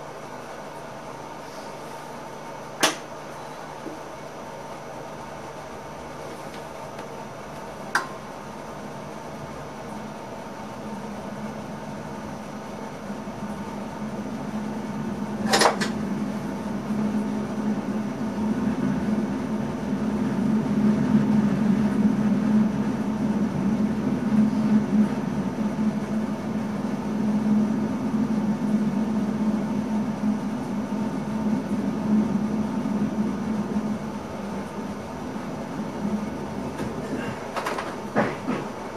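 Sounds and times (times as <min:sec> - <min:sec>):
train running hum: 0:00.0 - 0:38.9.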